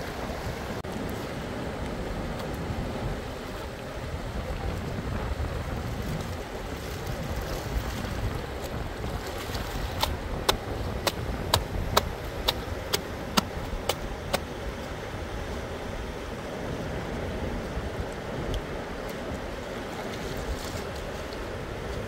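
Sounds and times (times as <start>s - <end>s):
river rushing over stones: 0.0s - 22.0s.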